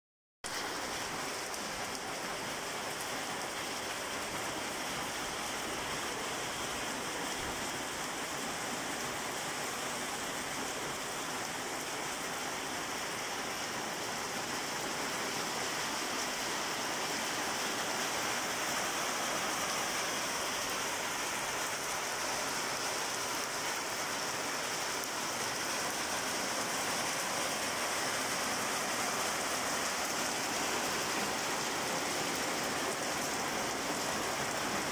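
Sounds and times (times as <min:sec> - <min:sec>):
light rain on plants and paving: 0:00.4 - 0:34.9.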